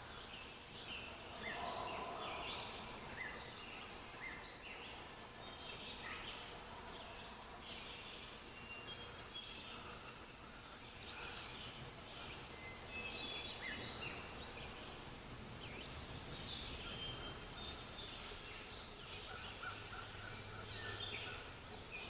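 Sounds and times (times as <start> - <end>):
songbirds chirping and whistling: 0.0 - 22.0
steady background hiss: 0.0 - 22.0.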